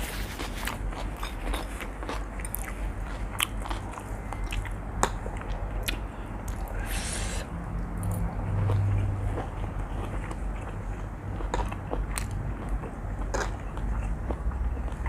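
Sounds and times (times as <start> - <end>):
steady low hum: 0.0 - 15.0
chewing noodles: 0.1 - 15.0.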